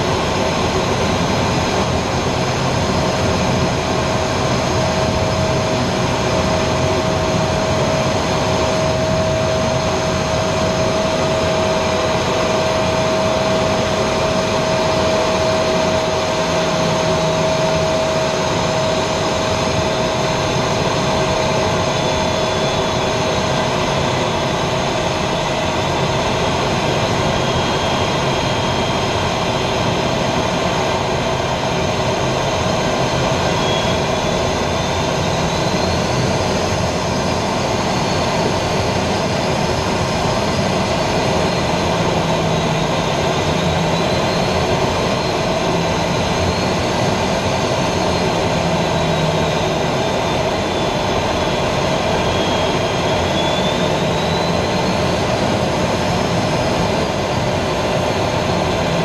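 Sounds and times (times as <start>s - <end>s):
engine whine: 0.0s - 59.0s
jet engine and airflow rush: 0.0s - 59.0s.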